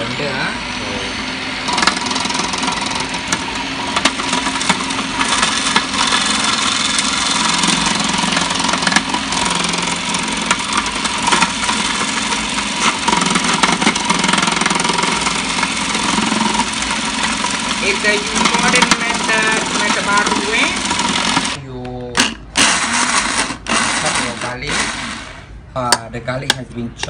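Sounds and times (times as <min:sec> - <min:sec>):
food processor motor running: 0:00.0 - 0:21.6, 0:22.5 - 0:25.5.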